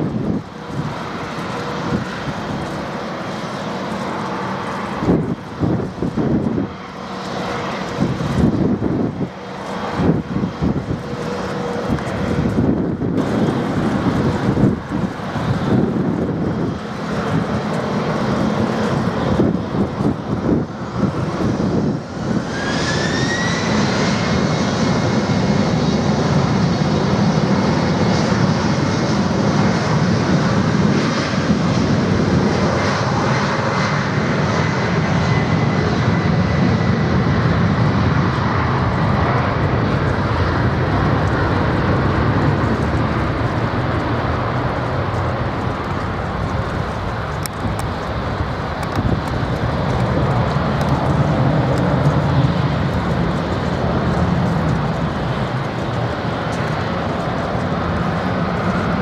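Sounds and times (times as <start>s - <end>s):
heavy rumble of takeoff roll: 0.0s - 59.0s
jet engines spooling up: 0.0s - 59.0s.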